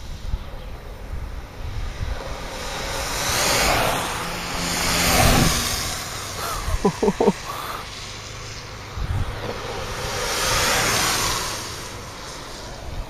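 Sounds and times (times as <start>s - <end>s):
skateboard wheels rolling on asphalt: 0.0s - 6.4s, 7.9s - 13.0s.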